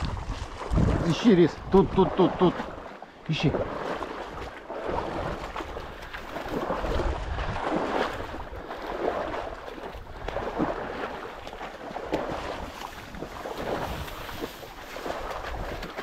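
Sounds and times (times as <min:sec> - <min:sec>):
wind buffeting microphone: 0:00.0 - 0:02.2, 0:03.5 - 0:11.1, 0:12.3 - 0:16.0
footsteps splashing through bog: 0:00.0 - 0:16.0.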